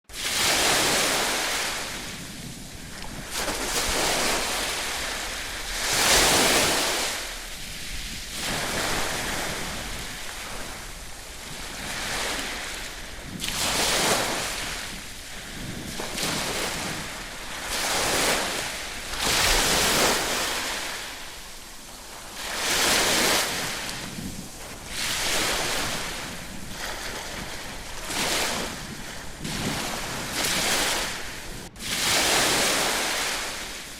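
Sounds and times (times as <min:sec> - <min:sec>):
surf breaking on shore: 0:00.1 - 0:33.9
wind on microphone: 0:00.1 - 0:33.9.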